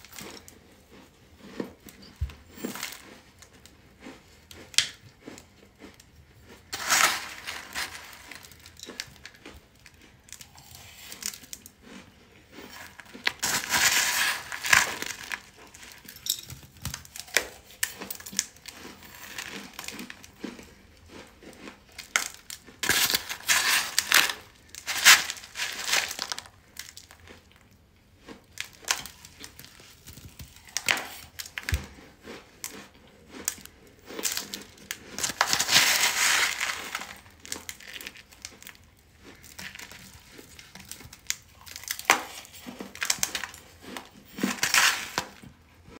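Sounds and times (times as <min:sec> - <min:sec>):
crunching of chalky chunks: 0:00.0 - 0:45.9.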